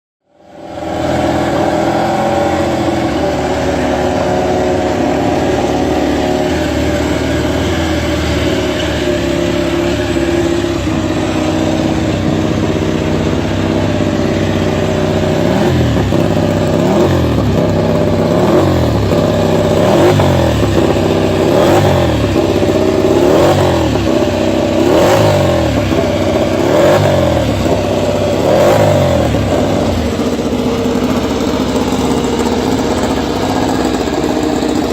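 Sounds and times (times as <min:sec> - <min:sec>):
racing motorcycle engine revving: 0:00.3 - 0:34.9.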